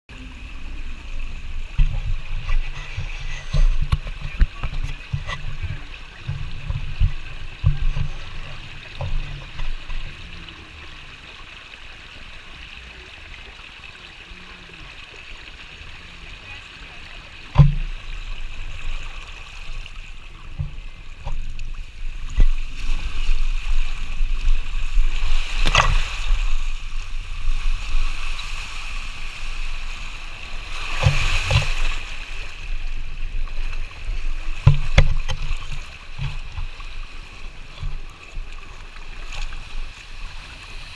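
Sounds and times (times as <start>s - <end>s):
water rushing and splashing: 0.1s - 40.9s
wind and handling thumps on microphone: 0.5s - 10.2s, 17.5s - 40.9s.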